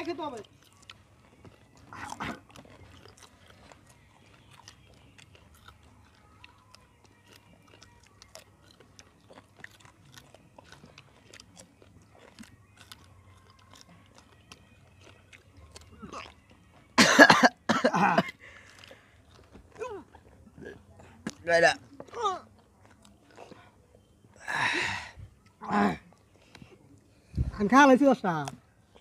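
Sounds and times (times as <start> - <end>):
crunching and chewing chillies: 0.0 - 29.0.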